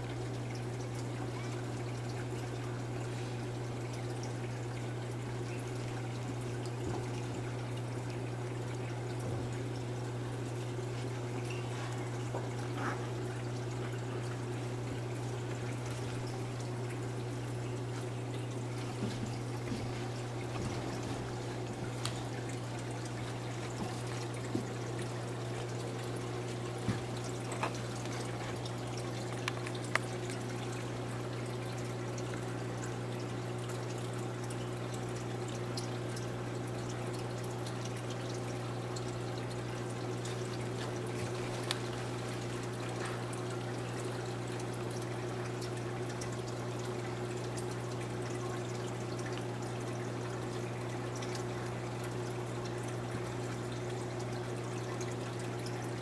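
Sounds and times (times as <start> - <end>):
constant low hum: 0.0 - 56.0
trickle of running water: 0.0 - 56.0.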